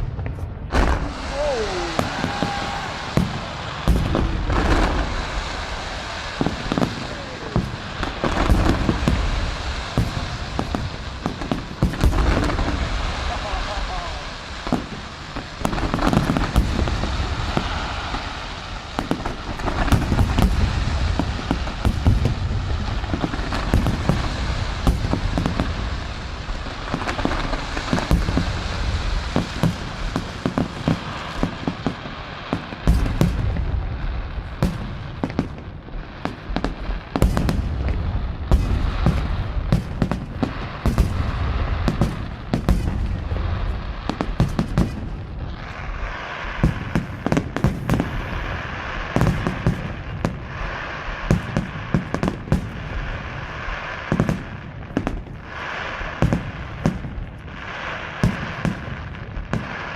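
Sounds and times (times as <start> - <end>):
fireworks bangs and booms: 0.0 - 59.9
fireworks crackling: 0.0 - 59.9.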